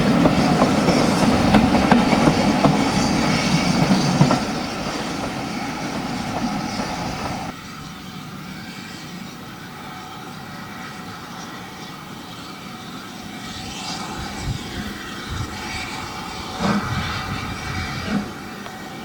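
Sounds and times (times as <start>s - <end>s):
steam train rumbling on track: 0.0s - 10.8s, 11.4s - 19.0s
outdoor background noise: 0.0s - 19.0s.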